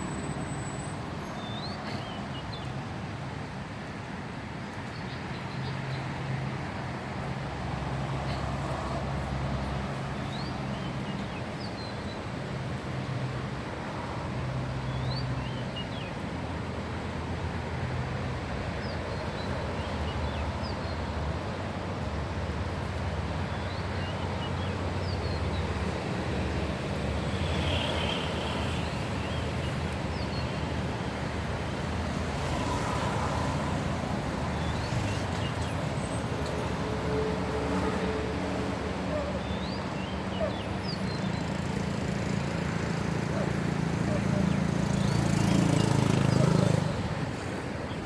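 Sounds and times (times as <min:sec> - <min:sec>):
distant traffic: 0:00.0 - 0:48.0
wind: 0:00.0 - 0:48.0.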